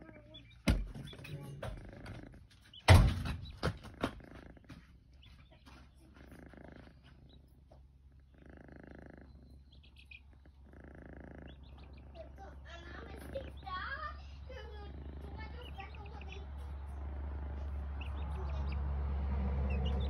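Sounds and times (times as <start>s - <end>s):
kitten purring: 1.1s - 2.7s, 3.4s - 18.9s.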